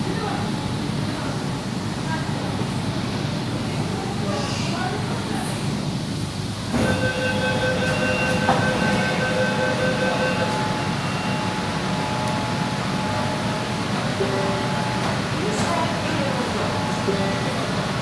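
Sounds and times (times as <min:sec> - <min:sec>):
train car hum and rumble: 0:00.0 - 0:18.0.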